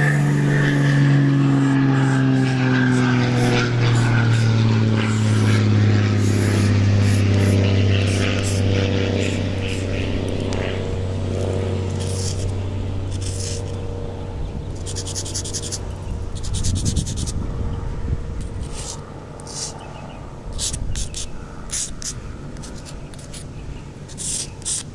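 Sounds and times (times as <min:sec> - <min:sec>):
chalk scraping on pavement: 0:00.0 - 0:10.6, 0:11.3 - 0:13.9, 0:14.7 - 0:17.4, 0:18.4 - 0:24.9
low hum: 0:00.0 - 0:24.1.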